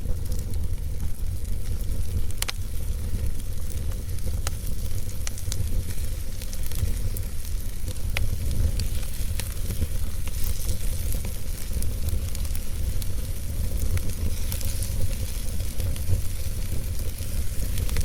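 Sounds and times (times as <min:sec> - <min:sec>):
fire flames rumbling: 0:00.0 - 0:18.0
logs crackling and popping: 0:00.0 - 0:18.0.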